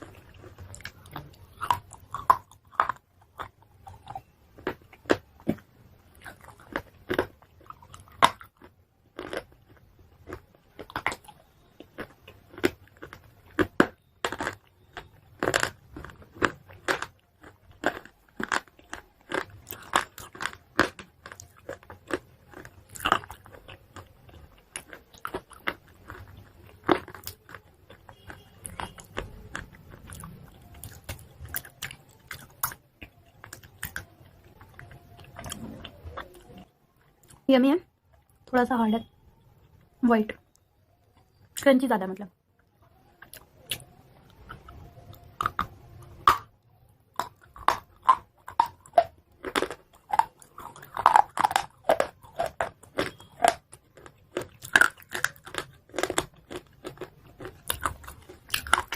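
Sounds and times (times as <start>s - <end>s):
chalk crunching while chewed: 0.0s - 37.4s, 42.6s - 46.5s, 47.1s - 58.9s.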